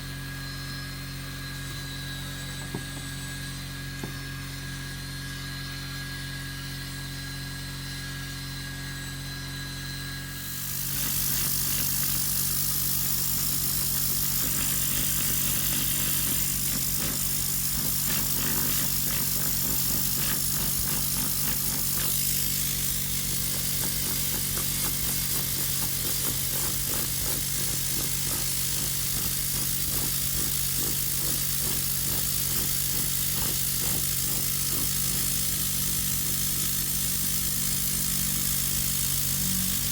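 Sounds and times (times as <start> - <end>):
air blower hissing and fluttering: 0.0 - 39.9.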